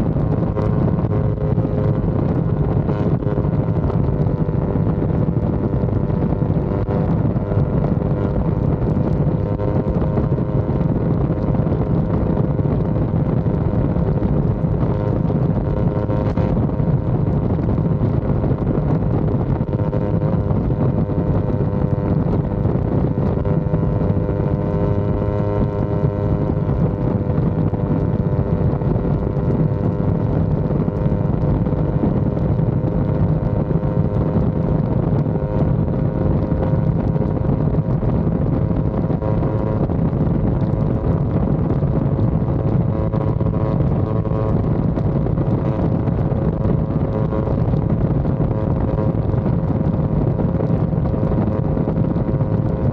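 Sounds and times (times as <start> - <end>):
motorcycle engine cruising: 0.0 - 52.9
wind rushing over microphone: 0.0 - 52.9.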